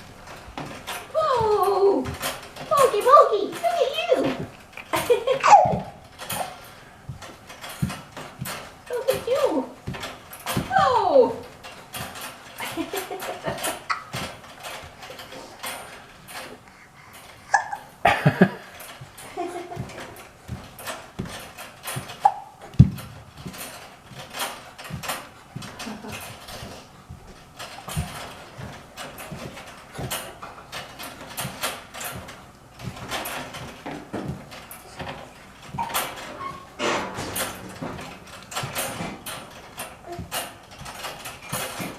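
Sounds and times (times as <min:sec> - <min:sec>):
baby bouncer creaking and squeaking: 0:00.2 - 0:18.0, 0:18.6 - 0:41.9.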